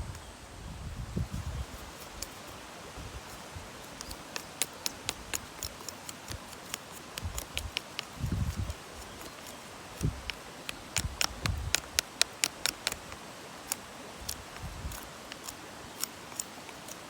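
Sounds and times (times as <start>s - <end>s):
mountain stream rushing: 1.3s - 17.0s
sharp clicks: 3.2s - 17.0s.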